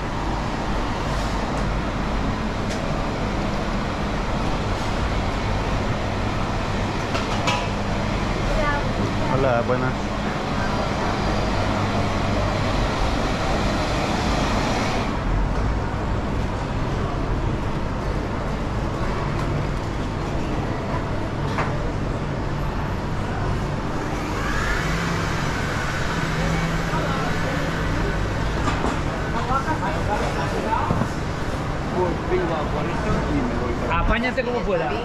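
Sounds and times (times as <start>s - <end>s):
indoor market din: 0.0s - 35.0s.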